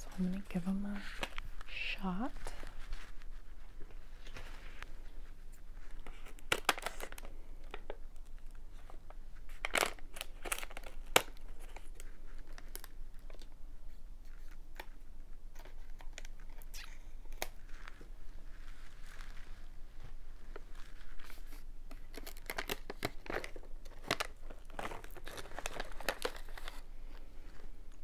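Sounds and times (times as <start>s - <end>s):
pouch crinkling and crackling: 0.1s - 13.6s, 14.3s - 28.0s.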